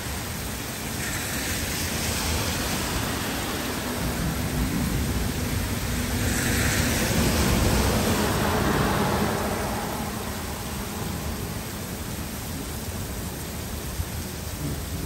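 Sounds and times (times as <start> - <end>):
heavy rain on trees and street: 0.0 - 15.0.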